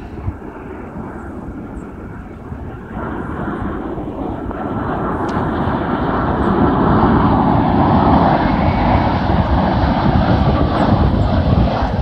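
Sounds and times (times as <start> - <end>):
jet engines of landing airliner: 0.0 - 12.0.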